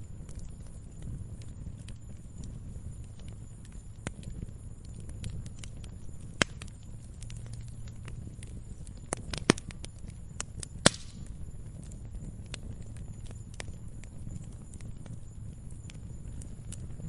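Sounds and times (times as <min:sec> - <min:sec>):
log fire crackling: 0:00.0 - 0:17.0
low fire rumble: 0:00.0 - 0:17.0.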